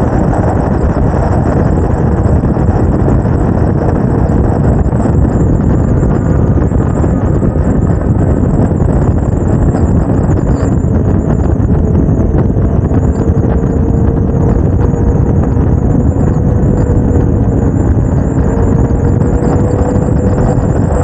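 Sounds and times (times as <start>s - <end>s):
motorcycle engine droning: 0.0s - 21.0s
wind buffeting microphone: 0.0s - 21.0s.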